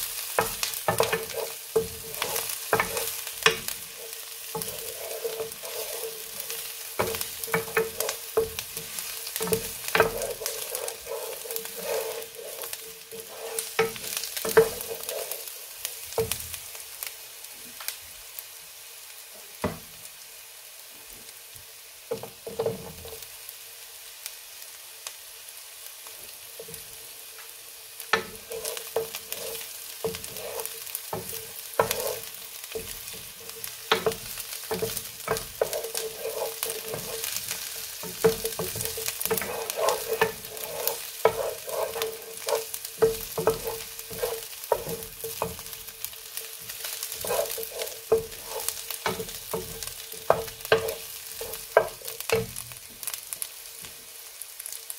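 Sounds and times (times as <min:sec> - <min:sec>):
wooden spatula scraping a pan: 0:00.0 - 0:16.5, 0:22.1 - 0:23.4, 0:26.4 - 0:53.7
oil sizzling: 0:00.0 - 0:54.9.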